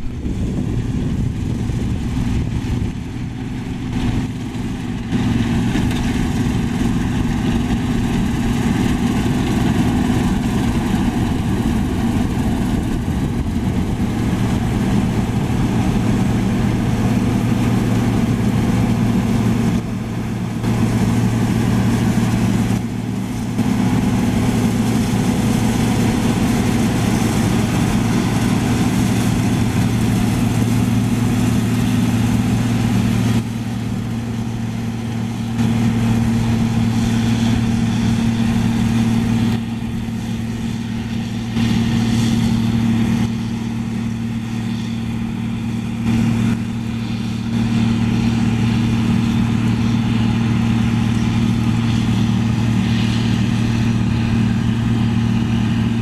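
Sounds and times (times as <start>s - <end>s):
chaff spreader: 0.0s - 56.0s
combine harvester diesel drone: 0.0s - 56.0s
threshing machinery rushing: 0.0s - 56.0s.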